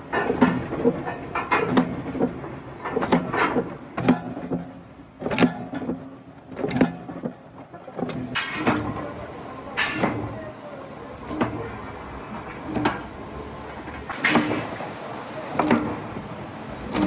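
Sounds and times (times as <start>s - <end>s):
workshop clatter: 0.0s - 17.0s.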